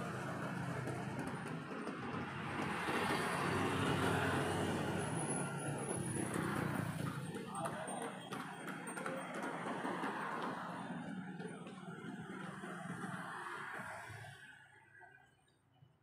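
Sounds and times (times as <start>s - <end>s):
motorbike engines passing: 0.0s - 14.6s
road hum: 0.0s - 14.6s.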